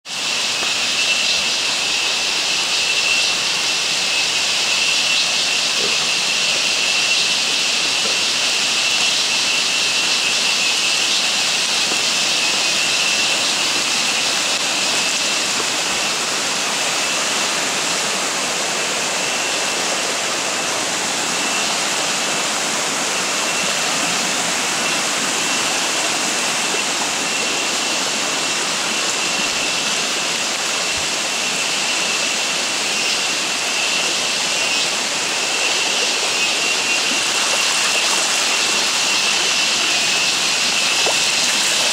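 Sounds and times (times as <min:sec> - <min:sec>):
heavy rain on foliage: 0:00.1 - 0:41.9
rainwater running: 0:03.4 - 0:31.7, 0:33.4 - 0:41.9.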